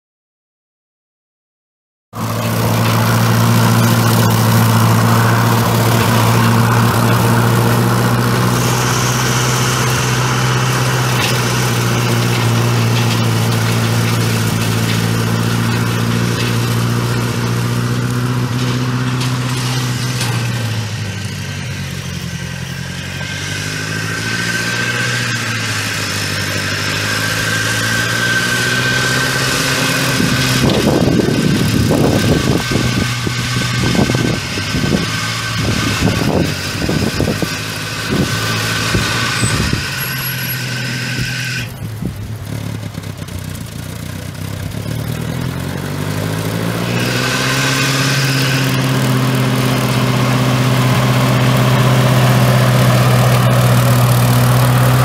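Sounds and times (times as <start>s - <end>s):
tractor engine running: 2.2s - 55.0s.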